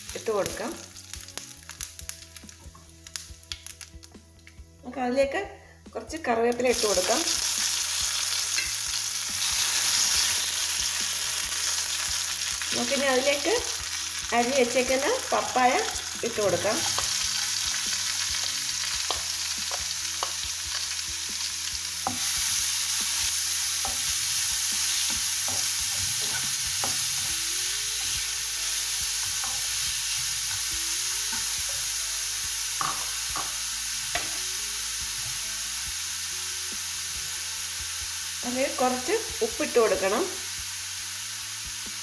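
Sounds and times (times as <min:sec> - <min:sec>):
food sizzling in a pan: 0:00.0 - 0:04.2, 0:06.5 - 0:42.0.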